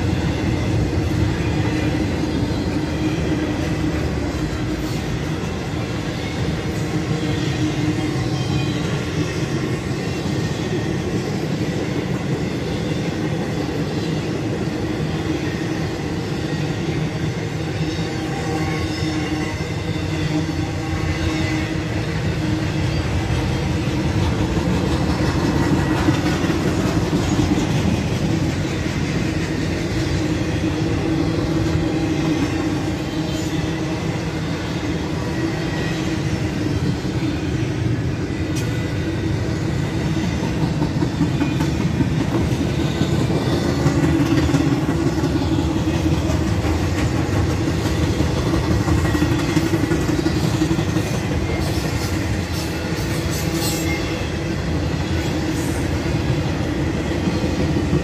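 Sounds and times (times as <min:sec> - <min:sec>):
steel train wheels on rails: 0:00.0 - 0:58.0.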